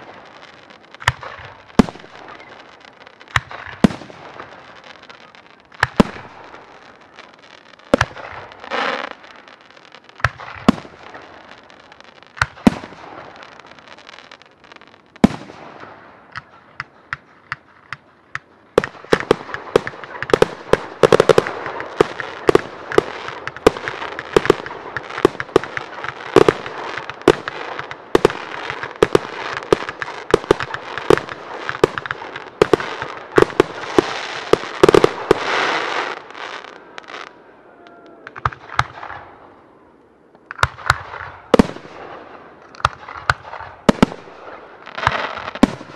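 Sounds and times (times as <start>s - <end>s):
fireworks bangs and crackling: 0.0s - 37.3s, 38.3s - 39.6s, 40.4s - 45.9s.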